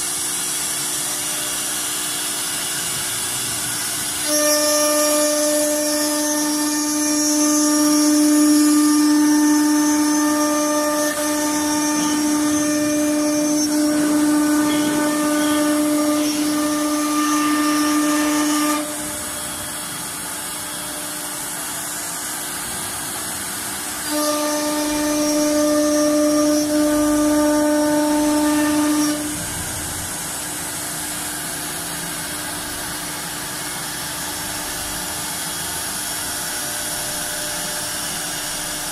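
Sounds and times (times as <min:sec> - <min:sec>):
router spindles high whine: 0:00.0 - 0:38.9.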